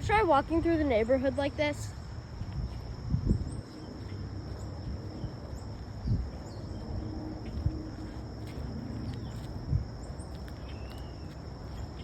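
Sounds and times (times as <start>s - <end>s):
high insect drone: 0.0s - 12.0s
wind rumble on microphone: 0.0s - 12.0s.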